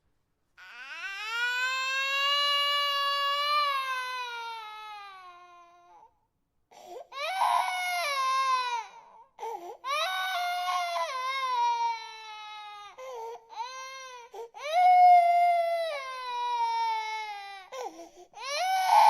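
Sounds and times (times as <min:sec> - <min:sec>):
infant crying: 0:00.6 - 0:06.1, 0:06.8 - 0:19.0.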